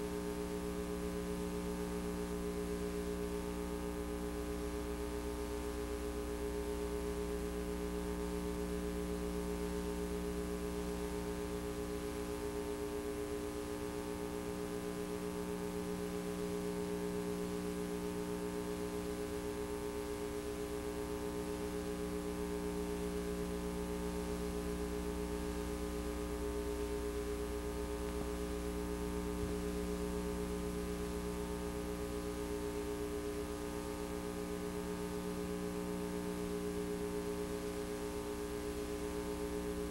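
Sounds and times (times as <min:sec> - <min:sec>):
electrical hum and buzz: 0:00.0 - 0:39.9.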